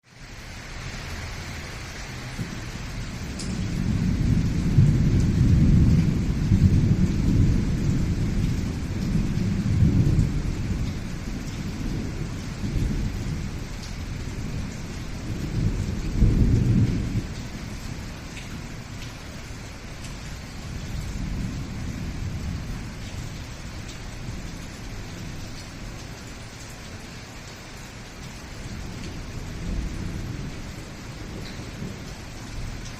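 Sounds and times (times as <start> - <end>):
steady rain: 0.0 - 32.9
rolling thunder: 2.2 - 19.2, 20.1 - 26.1, 28.6 - 32.9.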